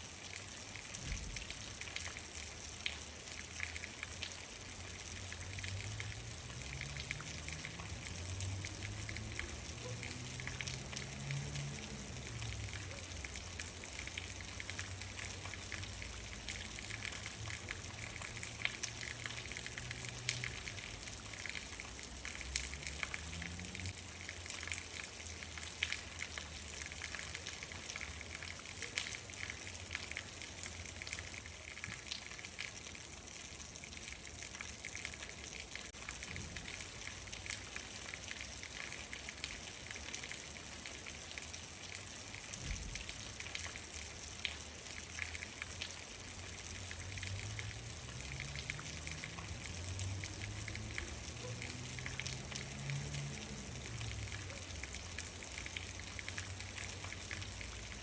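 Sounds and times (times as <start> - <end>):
raindrops ticking on surface: 0.0 - 58.0
steady rain: 0.0 - 58.0.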